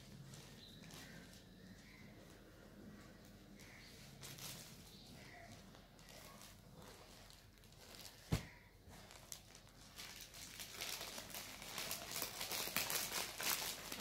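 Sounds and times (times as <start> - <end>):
thin plastic crinkling: 0.0 - 2.4, 3.0 - 14.0.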